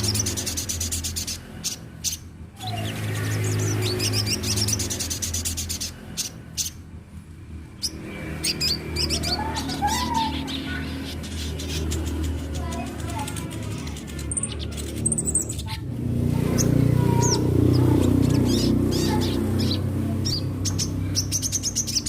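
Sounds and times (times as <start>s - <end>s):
bird twittering and trills: 0.0s - 22.0s
steady low hum: 0.0s - 22.0s.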